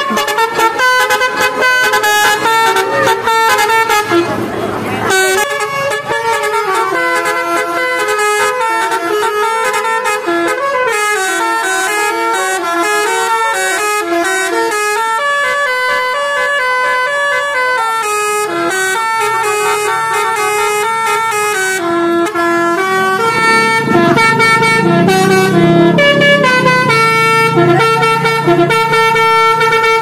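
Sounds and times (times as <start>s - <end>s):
bus musical horn melody: 0.0s - 30.0s.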